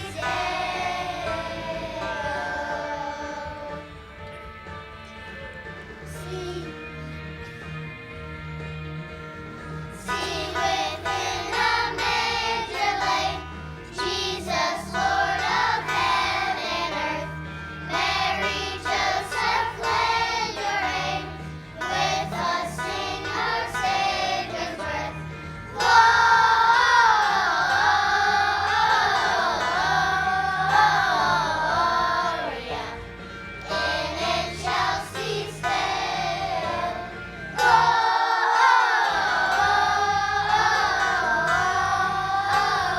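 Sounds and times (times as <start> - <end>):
children singing: 0.0 - 3.9, 6.1 - 6.9, 9.9 - 17.3, 17.9 - 42.9
instrumental accompaniment: 0.0 - 42.9.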